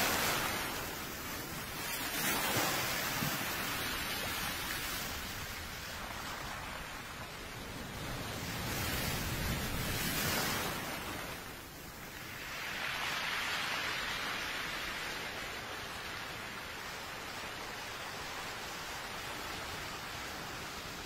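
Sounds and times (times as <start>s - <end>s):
sea waves rushing: 0.0s - 21.0s.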